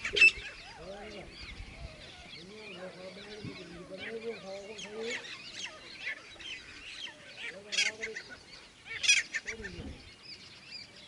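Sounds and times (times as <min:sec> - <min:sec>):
francolins calling harshly: 0:00.0 - 0:11.0
soft bird chirps: 0:00.0 - 0:11.0.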